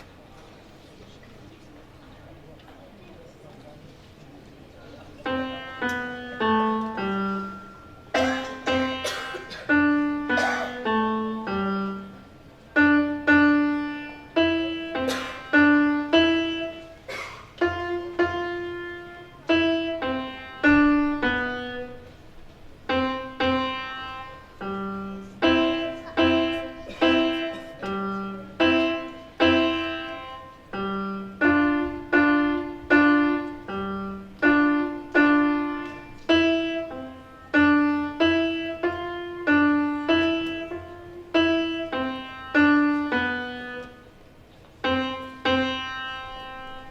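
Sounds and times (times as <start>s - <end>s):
solo piano melody: 4.9s - 46.9s.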